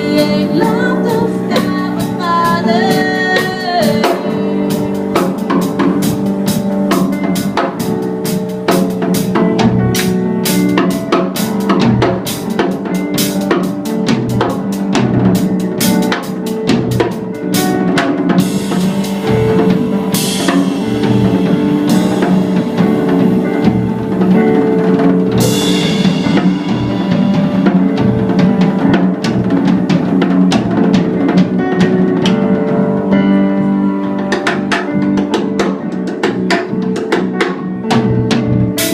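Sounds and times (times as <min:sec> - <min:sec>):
band playing instrumental: 0:00.0 - 0:38.9
drum kit beating: 0:00.0 - 0:38.9.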